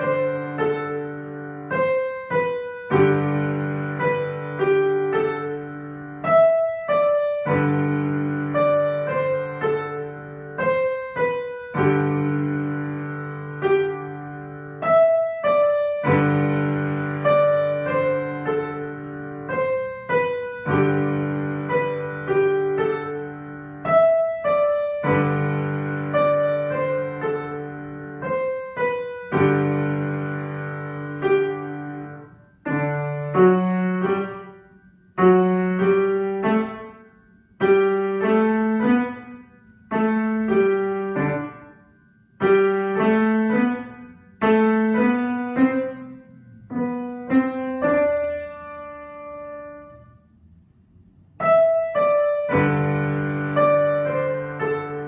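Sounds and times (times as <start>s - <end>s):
slow piano piece: 0.0s - 55.0s.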